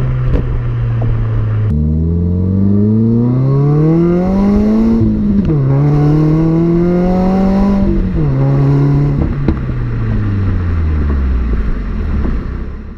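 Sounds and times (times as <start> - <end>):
car engine accelerating: 0.0 - 12.9.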